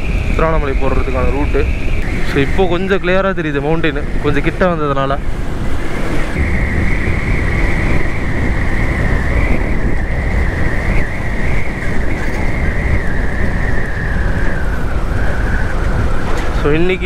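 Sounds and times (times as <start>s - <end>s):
motorcycle engine: 0.0s - 17.0s
steady high whine: 0.0s - 17.0s
wind buffeting microphone: 0.0s - 17.0s.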